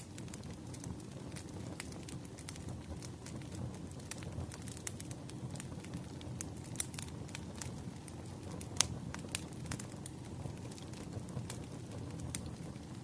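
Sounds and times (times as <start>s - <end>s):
fire rumbling: 0.0s - 13.0s
firewood crackling and popping: 0.0s - 13.0s.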